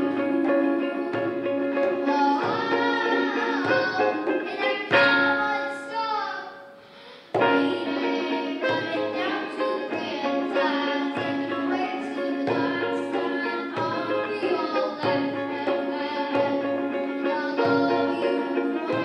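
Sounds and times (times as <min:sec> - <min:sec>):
djembe hand drum: 0:00.0 - 0:05.2, 0:08.6 - 0:19.0
ukulele strumming chords: 0:00.0 - 0:19.0.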